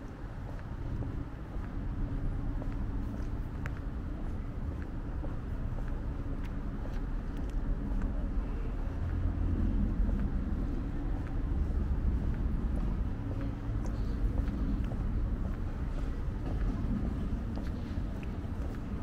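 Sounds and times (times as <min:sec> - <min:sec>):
street ambience: 0:00.0 - 0:19.0
vehicle engine rumble: 0:00.0 - 0:19.0.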